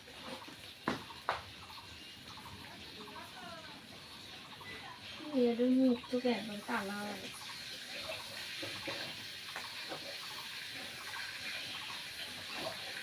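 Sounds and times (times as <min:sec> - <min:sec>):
fire hissing and crackling: 0:00.0 - 0:13.0.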